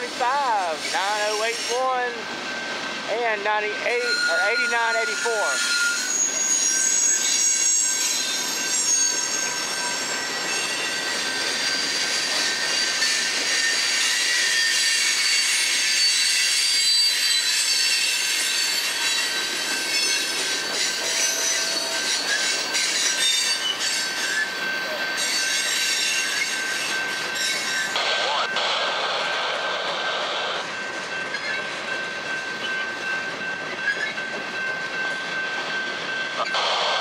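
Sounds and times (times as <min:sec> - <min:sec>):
freight train rolling: 0:00.0 - 0:37.0
train wheels squealing: 0:00.6 - 0:02.9, 0:03.8 - 0:28.4, 0:30.5 - 0:36.6.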